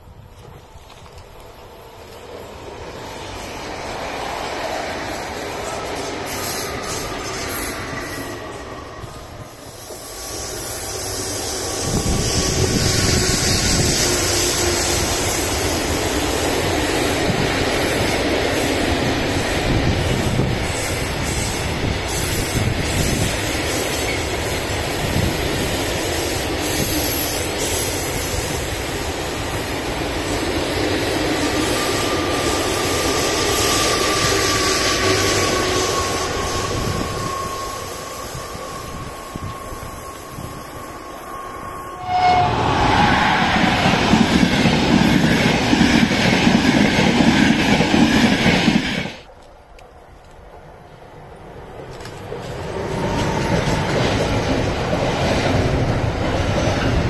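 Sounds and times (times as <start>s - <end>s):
freight train rolling past: 0.0s - 49.4s, 50.2s - 57.0s.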